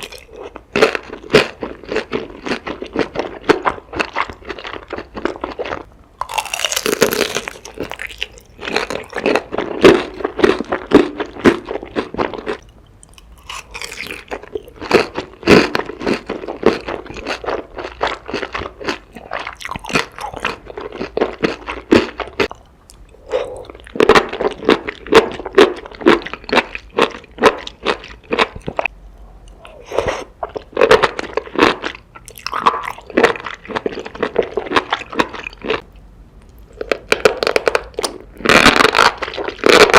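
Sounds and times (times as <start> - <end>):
crunchy food chewing: 0.0 - 35.8.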